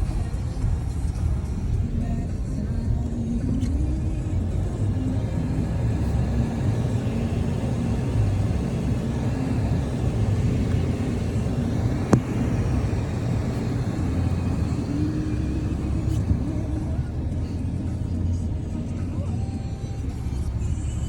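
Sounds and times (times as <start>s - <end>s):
car engine rumble in cabin: 0.0s - 21.0s
road noise: 0.0s - 21.0s.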